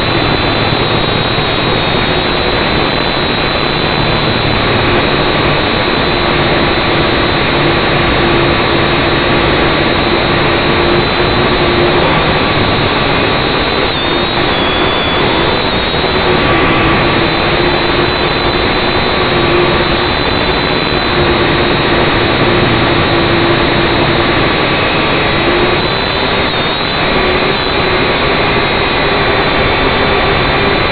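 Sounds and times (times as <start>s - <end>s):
drone propellers buzzing: 0.0s - 30.9s.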